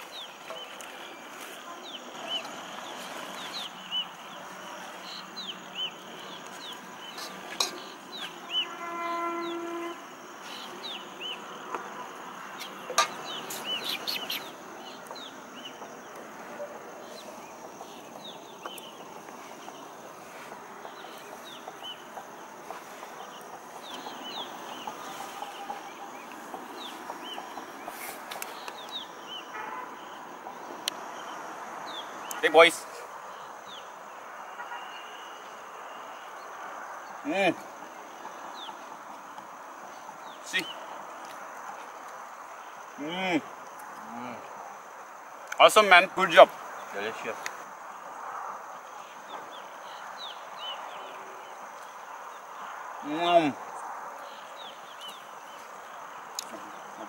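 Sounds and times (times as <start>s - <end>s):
birds chirping: 0.0s - 57.0s
outdoor background hiss: 0.0s - 57.0s.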